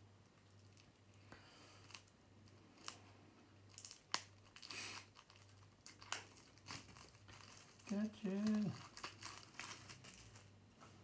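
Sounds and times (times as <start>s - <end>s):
plastic wrap crinkling and tearing: 1.8s - 10.7s.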